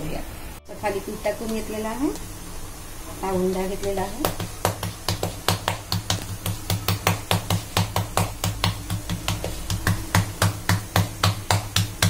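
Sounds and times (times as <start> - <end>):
palms patting dough: 0.9 - 2.4, 3.2 - 12.0.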